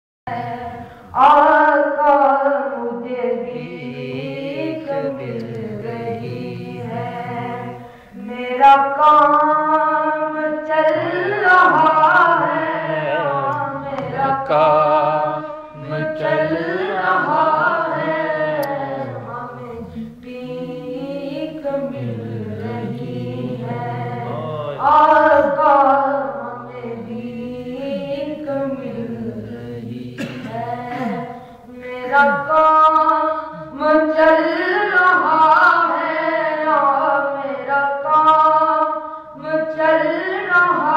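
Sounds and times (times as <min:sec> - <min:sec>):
boys singing unaccompanied: 0:00.3 - 0:40.9.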